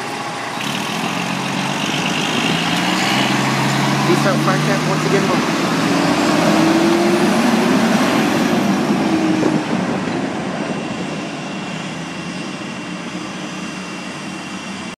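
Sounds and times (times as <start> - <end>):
ambulance driving past: 0.0 - 15.0.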